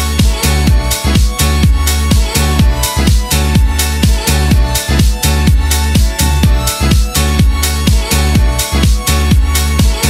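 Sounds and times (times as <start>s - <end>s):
disco dance music: 0.0s - 10.0s.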